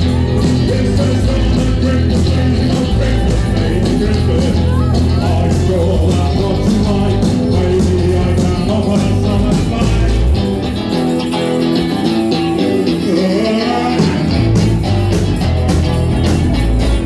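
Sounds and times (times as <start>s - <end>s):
bass guitar: 0.0s - 17.0s
drums: 0.0s - 17.0s
electric guitar: 0.0s - 17.0s
rock vocals: 0.0s - 17.0s.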